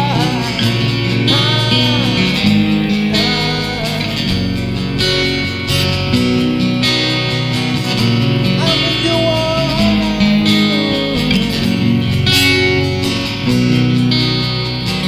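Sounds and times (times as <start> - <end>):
acoustic guitar strumming: 0.0 - 15.0
sliding melody line: 0.0 - 15.0.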